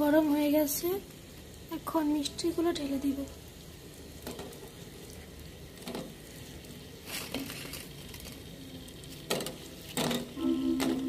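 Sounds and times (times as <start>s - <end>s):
faint hiss of syrup: 0.0s - 11.0s.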